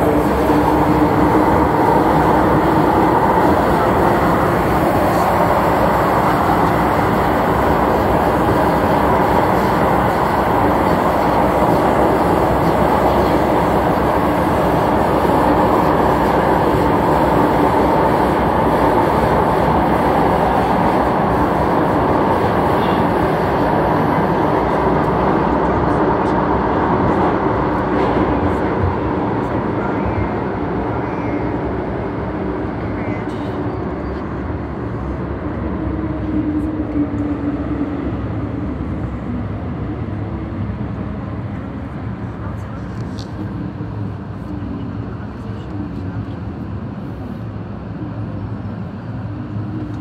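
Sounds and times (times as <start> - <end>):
train rumbling through tunnel: 0.0 - 50.0.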